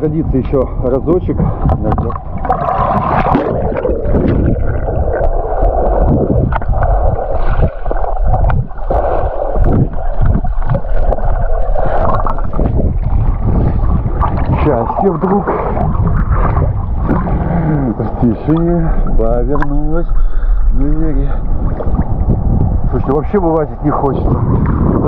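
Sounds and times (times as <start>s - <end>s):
underwater gurgling and rumbling: 0.0s - 25.0s
water splashing: 1.4s - 23.0s.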